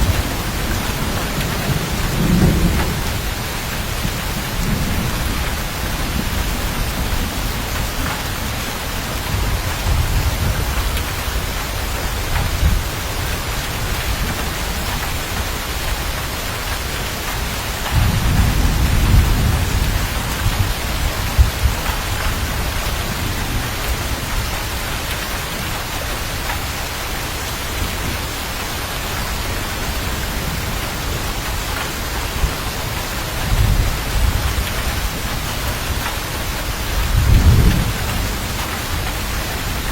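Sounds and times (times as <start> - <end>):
rolling thunder: 0.0 - 15.2, 17.7 - 25.7, 29.4 - 39.9
heavy rain: 0.0 - 39.9.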